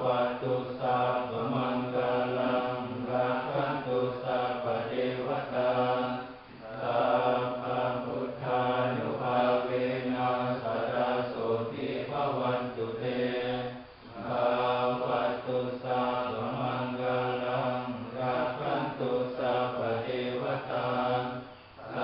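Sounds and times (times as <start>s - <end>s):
monks chanting: 0.0s - 22.0s.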